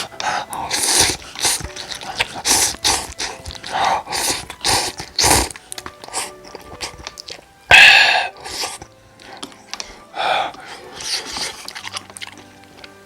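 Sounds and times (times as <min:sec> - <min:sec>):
noodles slurped and chewed: 0:00.0 - 0:13.0.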